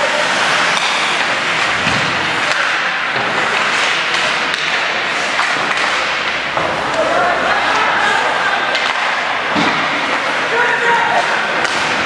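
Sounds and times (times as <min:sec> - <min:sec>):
hockey sticks and puck knocking: 0:00.0 - 0:07.8, 0:08.6 - 0:10.5, 0:11.1 - 0:12.0
skate and arena noise: 0:00.0 - 0:12.0.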